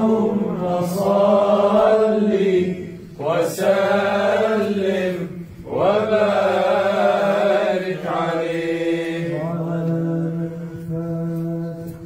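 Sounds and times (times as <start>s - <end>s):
devotional chanting voice: 0.0s - 12.0s.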